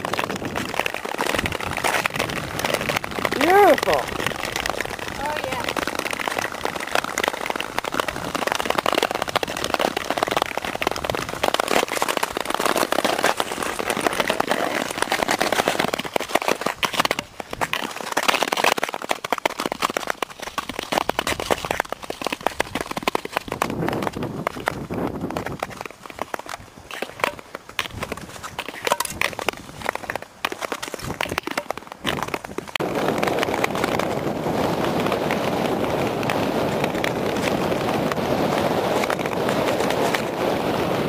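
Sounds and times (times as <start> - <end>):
skate blades scraping ice: 0.0 - 41.0.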